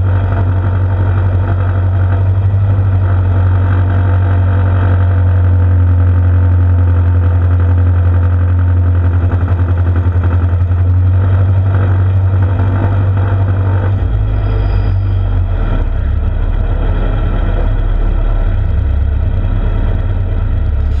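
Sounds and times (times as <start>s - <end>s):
tractor engine running loud: 0.0s - 21.0s.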